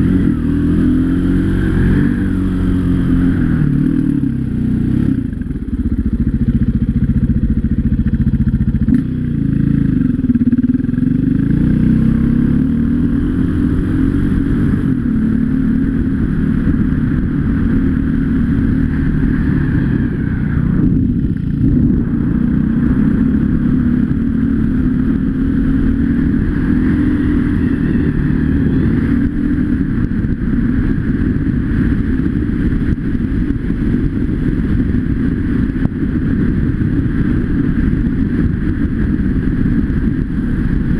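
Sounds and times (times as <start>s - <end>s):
off-road motorcycle engine: 0.0s - 40.9s.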